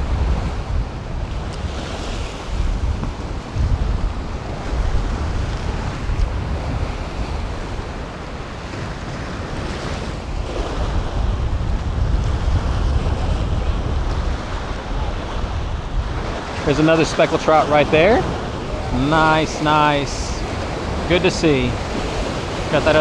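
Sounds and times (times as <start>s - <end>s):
surf washing against rocks: 0.0s - 23.0s
wind buffeting microphone: 0.0s - 23.0s.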